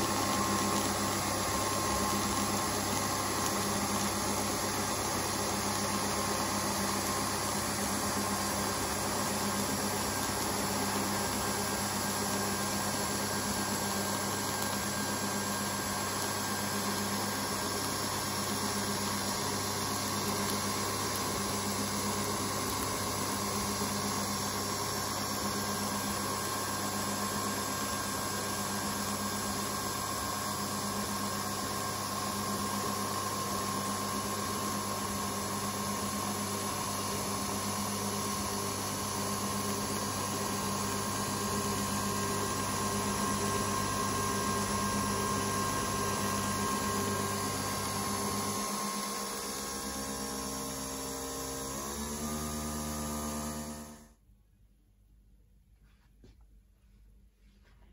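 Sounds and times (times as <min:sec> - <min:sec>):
coffee machine motor and pump hum: 0:00.0 - 0:54.1.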